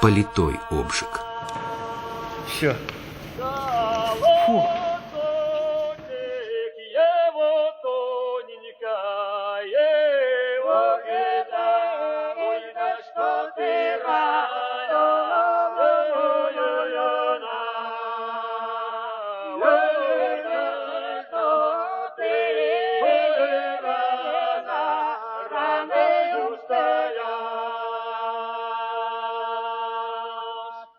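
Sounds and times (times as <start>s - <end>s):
voices singing a cappella: 0.0s - 30.9s.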